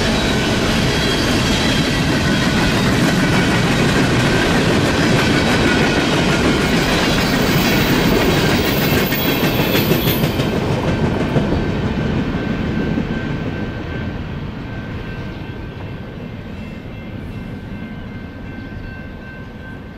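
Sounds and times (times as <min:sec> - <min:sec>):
train cars rolling on rails: 0:00.0 - 0:19.9.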